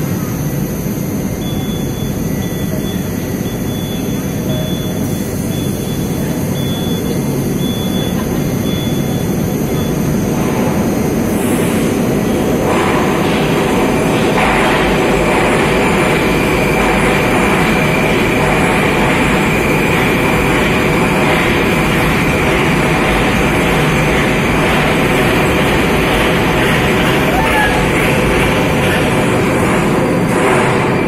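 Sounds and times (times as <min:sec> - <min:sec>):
metro train wheels and running gear: 0:00.0 - 0:31.0
steady high whine: 0:00.0 - 0:31.0.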